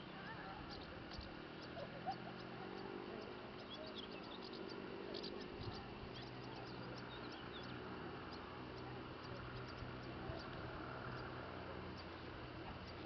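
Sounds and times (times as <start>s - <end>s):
faint low hum: 0.0s - 13.0s
bird chirps: 0.1s - 13.0s
insects chirping: 0.2s - 13.0s.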